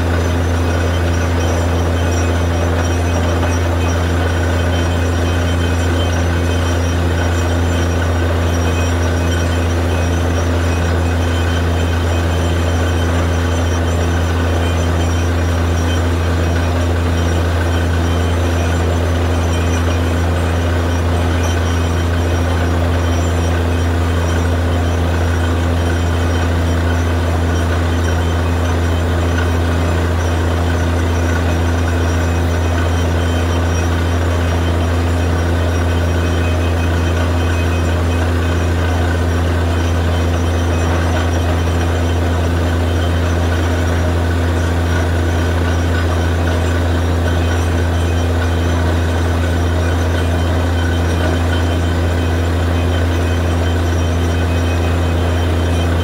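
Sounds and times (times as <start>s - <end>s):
drilling rig engine drone: 0.0s - 56.0s.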